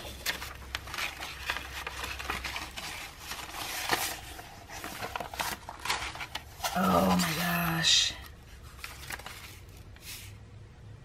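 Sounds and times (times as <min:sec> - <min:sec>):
magazine pages rustling: 0:00.0 - 0:10.4.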